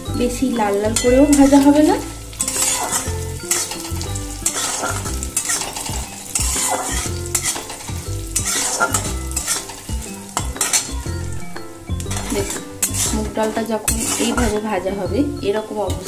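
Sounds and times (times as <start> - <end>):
lentils sizzling in hot oil: 0.0 - 16.0
metal spatula scraping pan: 0.9 - 11.4, 12.0 - 15.0.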